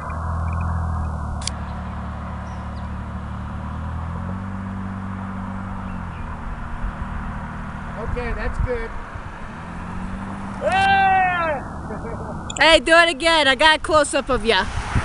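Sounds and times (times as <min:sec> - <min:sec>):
tyre and road noise: 0:00.0 - 0:15.0
vehicle engine drone: 0:00.0 - 0:15.0.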